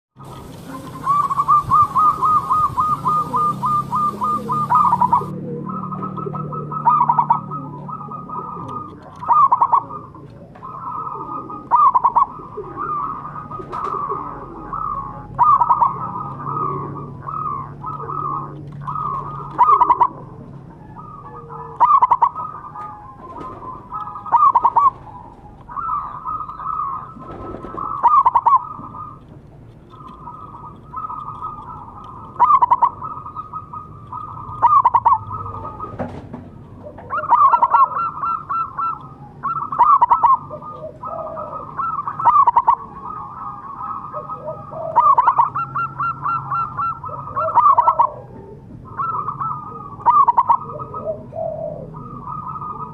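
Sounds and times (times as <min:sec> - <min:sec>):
dove cooing: 0:00.2 - 0:52.9.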